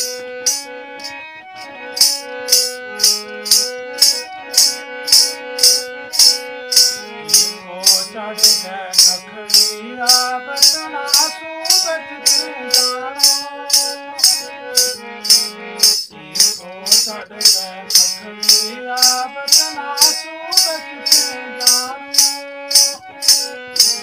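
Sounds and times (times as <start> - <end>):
shaker rattle beat: 0.0 - 24.0
man singing with music: 2.0 - 24.0.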